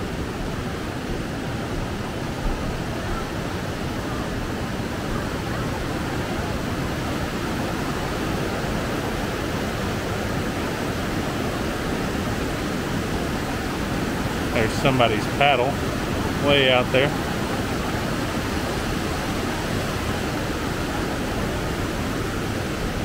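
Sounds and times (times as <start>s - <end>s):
river rapids rushing: 0.0s - 23.0s.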